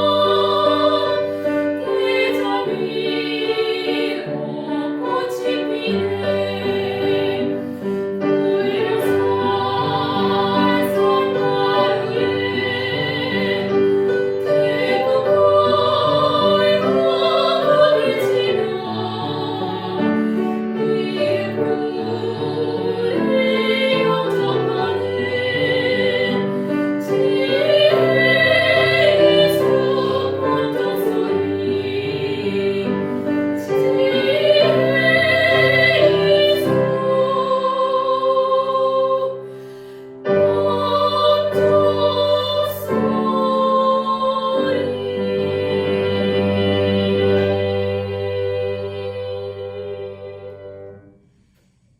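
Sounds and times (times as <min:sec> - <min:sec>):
operatic hymn singing: 0:00.0 - 0:51.2
piano accompaniment: 0:00.0 - 0:51.2.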